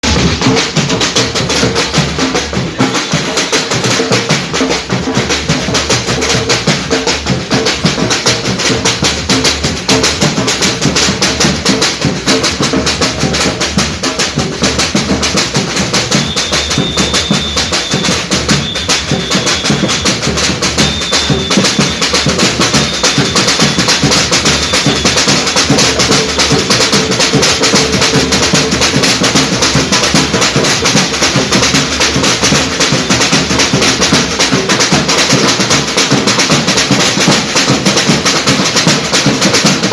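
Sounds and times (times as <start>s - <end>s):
samba drum ensemble: 0.0s - 39.9s.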